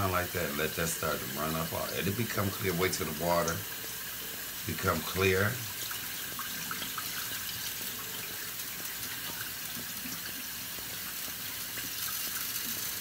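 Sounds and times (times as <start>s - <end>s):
faucet running into saucepan: 0.0s - 13.0s.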